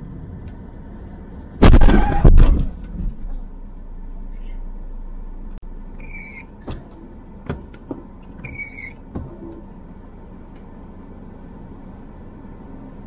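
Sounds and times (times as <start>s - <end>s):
steady low hum inside car: 0.0s - 13.0s.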